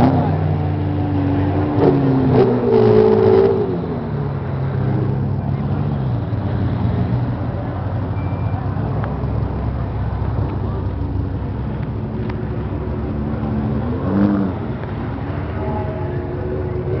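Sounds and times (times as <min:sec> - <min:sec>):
sports car engine revving and idling: 0:00.0 - 0:08.2, 0:08.8 - 0:17.0.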